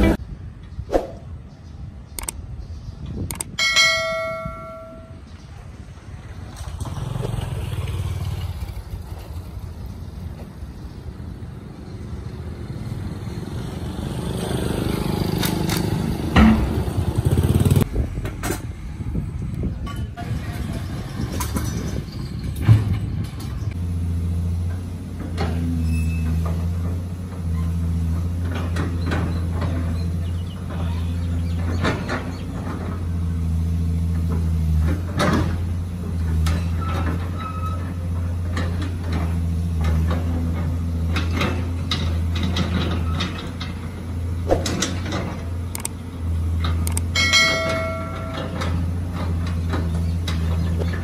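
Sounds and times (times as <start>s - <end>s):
excavator diesel engine: 3.3s - 51.0s.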